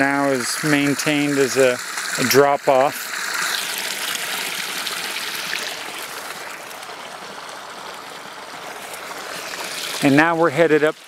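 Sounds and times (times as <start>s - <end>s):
creek water trickling and splashing: 0.0s - 11.0s.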